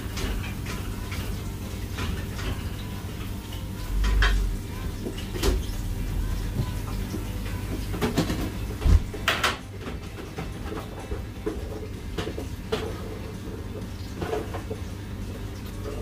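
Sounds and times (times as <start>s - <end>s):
kitchen extractor fan hum: 0.0s - 16.0s.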